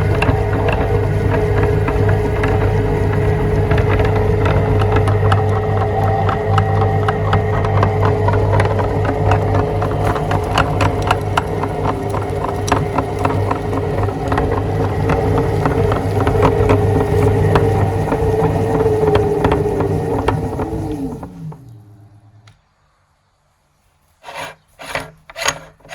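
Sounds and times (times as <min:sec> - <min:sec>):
small clicks and crackles: 0:00.0 - 0:21.8
meat grinder motor humming: 0:00.0 - 0:22.5.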